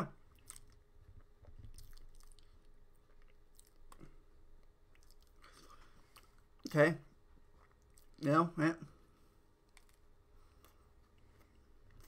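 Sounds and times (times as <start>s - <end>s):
faint chewing with mouth clicks: 0.1s - 8.3s, 9.5s - 12.0s.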